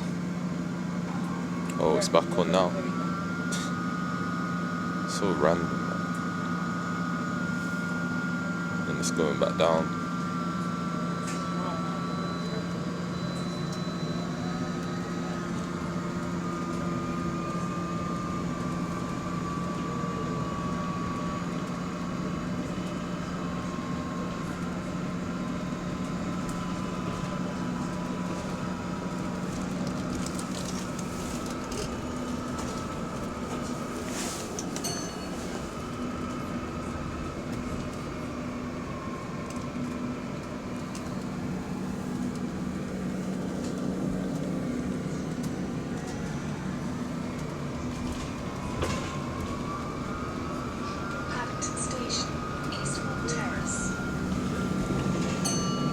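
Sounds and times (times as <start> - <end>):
bus engine low drone: 0.0 - 55.9.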